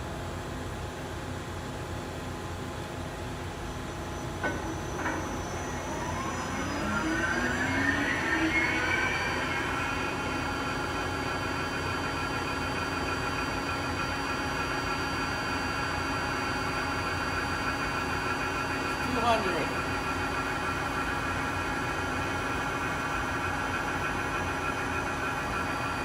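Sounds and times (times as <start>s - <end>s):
lathe spindle whine: 3.9s - 26.0s.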